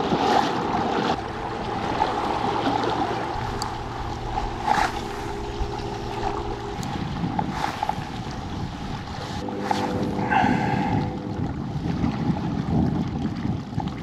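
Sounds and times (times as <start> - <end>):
water rushing along hull: 0.0 - 14.0
wind on microphone: 0.6 - 14.0
low hum of kayak drive: 0.7 - 13.2.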